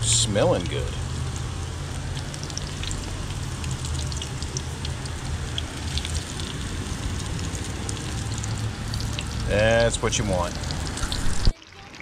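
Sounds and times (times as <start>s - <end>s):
deep-frying sizzle with pops: 0.0s - 12.0s.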